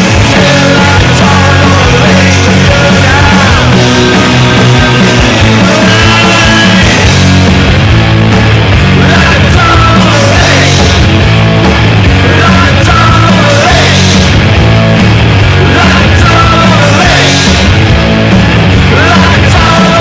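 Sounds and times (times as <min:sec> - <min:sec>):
punk rock song with electric guitar: 0:00.0 - 0:20.0.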